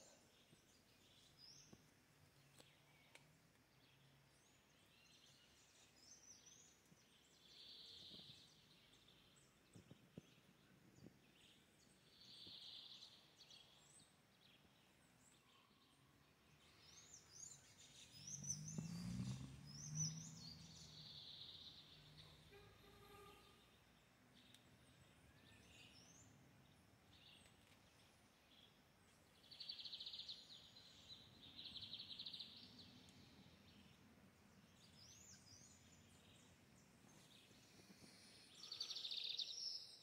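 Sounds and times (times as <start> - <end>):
faint birdsong: 0.0 - 40.0.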